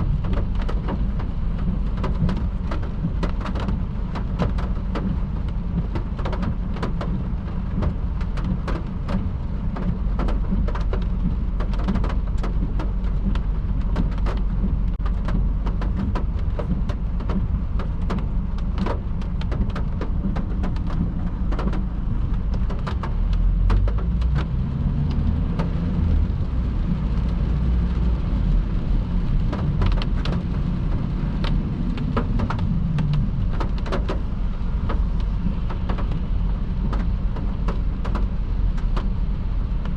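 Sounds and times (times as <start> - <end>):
car tyres and engine rumble: 0.0 - 39.9
raindrops ticking on car: 0.0 - 39.9.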